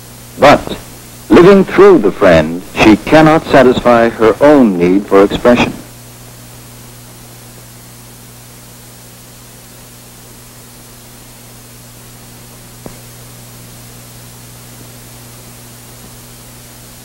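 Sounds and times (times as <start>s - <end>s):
film soundtrack hiss: 0.0s - 17.0s.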